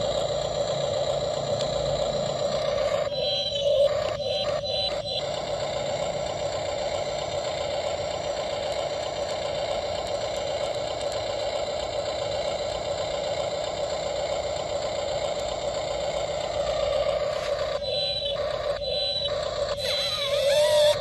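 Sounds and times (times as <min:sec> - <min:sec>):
electric motor whirring: 0:00.0 - 0:21.0.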